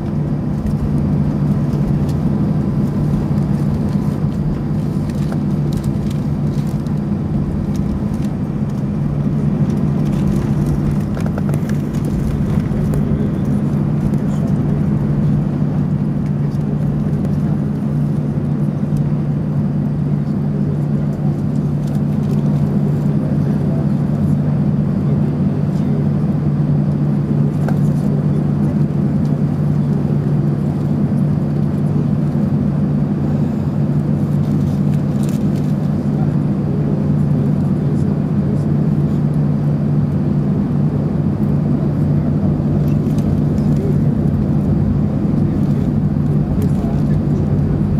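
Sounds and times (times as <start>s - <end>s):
jet engines humming: 0.0s - 47.9s.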